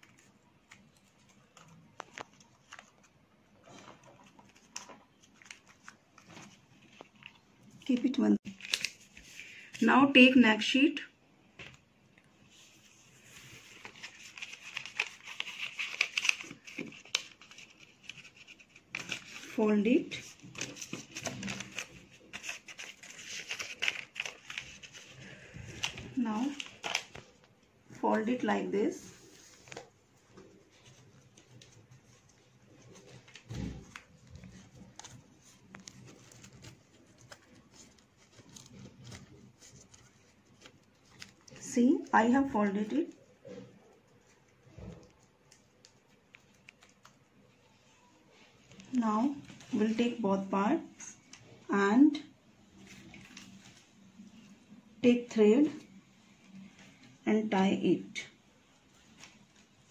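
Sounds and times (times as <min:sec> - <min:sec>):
paper crinkling and rustling: 0:00.0 - 0:09.8, 0:11.6 - 0:50.2, 0:52.6 - 0:55.0, 0:58.6 - 0:59.9
small sharp paper crackles: 0:00.0 - 0:09.9, 0:12.5 - 0:50.2, 0:52.6 - 0:54.7.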